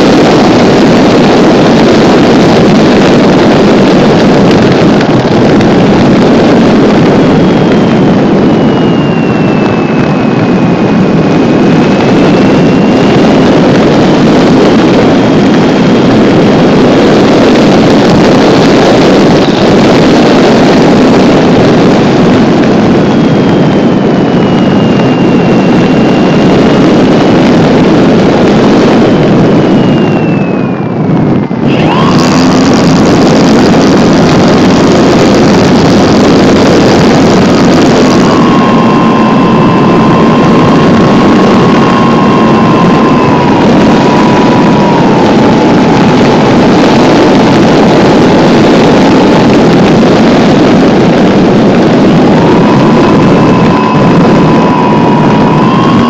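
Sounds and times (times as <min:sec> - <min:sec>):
electric motor and propeller whining: 0:00.0 - 0:56.0
wind rushing: 0:00.0 - 0:56.0.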